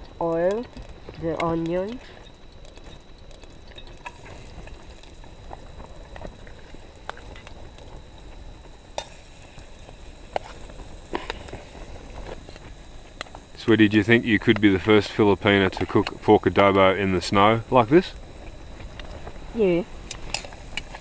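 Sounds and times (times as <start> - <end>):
onion sizzling in oil: 0.0 - 21.0.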